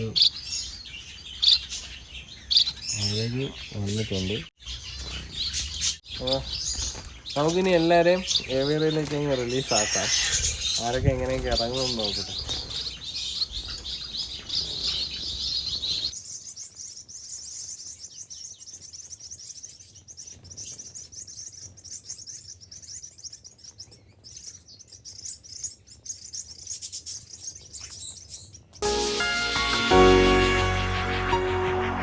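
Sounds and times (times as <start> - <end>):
finches chirping: 0.0 - 28.8.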